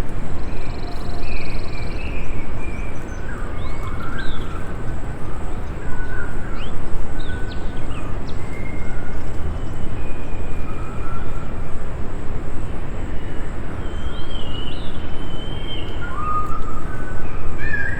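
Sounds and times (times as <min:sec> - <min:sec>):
songbirds chirping and whistling: 0:00.4 - 0:11.7, 0:13.1 - 0:17.9.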